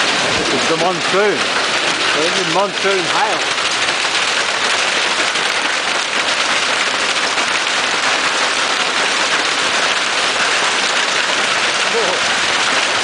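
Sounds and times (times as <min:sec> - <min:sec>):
heavy hail pelting down: 0:00.0 - 0:13.0.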